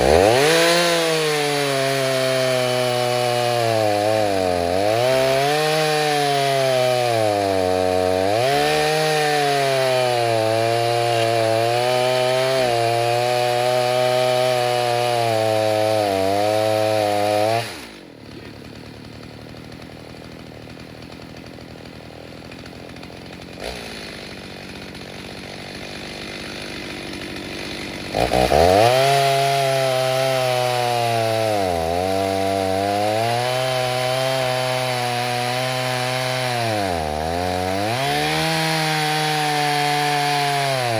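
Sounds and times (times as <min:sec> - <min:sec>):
chainsaw cutting wood: 0:00.0 - 0:40.9
chainsaw idling: 0:00.0 - 0:40.9.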